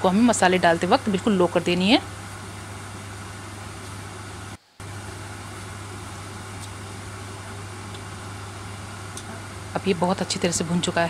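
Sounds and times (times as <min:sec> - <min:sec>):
masala frying in oil: 0:00.0 - 0:11.0.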